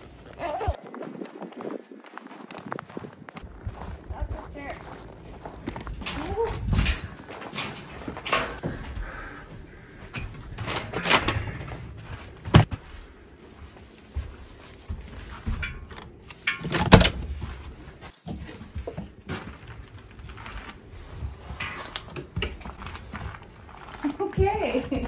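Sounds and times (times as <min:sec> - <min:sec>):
soft rustling and handling noise: 0:00.0 - 0:25.0.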